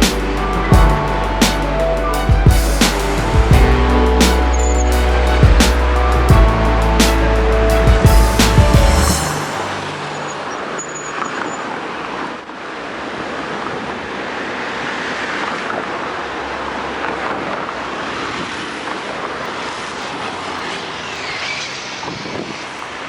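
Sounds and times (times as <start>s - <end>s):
urban traffic noise: 0.0s - 12.5s, 16.2s - 23.0s.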